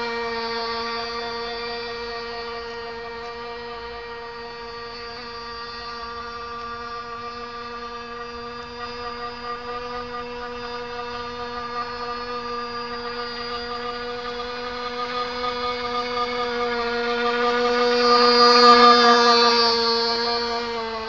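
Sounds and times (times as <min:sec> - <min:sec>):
model boat engine buzzing: 0:00.0 - 0:21.0.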